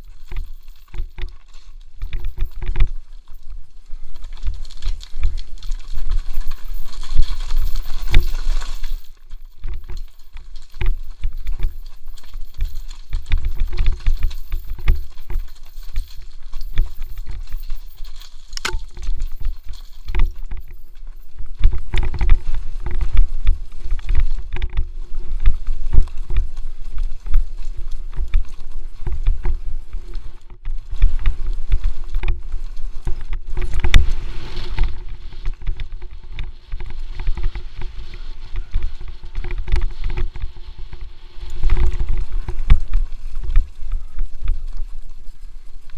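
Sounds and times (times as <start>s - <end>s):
bike rattling over rough trail: 0.0s - 45.9s
wind rumble on microphone: 0.0s - 45.9s.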